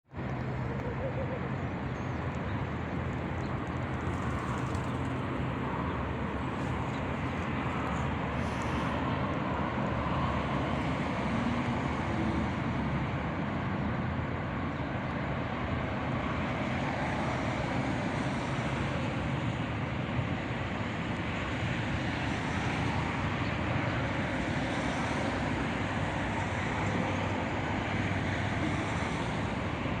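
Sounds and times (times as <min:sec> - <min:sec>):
traffic rumble: 0:00.1 - 0:30.0.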